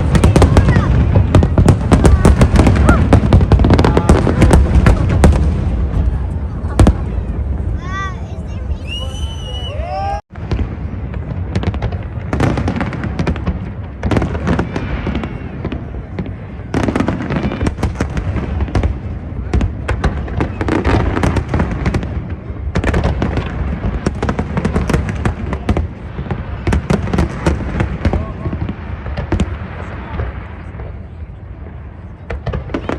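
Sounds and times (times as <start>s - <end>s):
fireworks crackling and booming: 0.0s - 32.9s.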